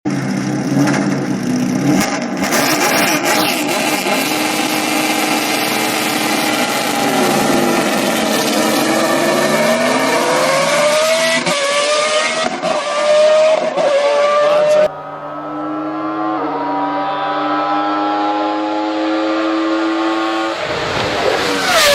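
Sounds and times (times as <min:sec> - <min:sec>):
race car engine revving: 0:00.1 - 0:21.9.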